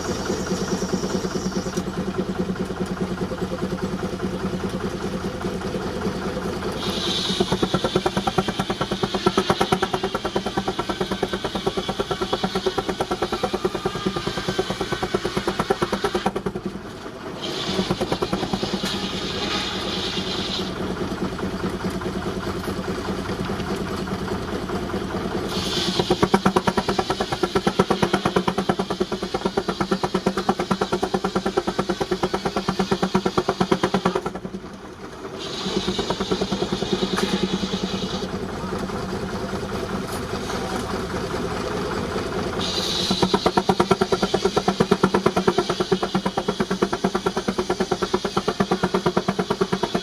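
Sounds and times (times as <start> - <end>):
steam engine chuffing: 0.0 - 50.0.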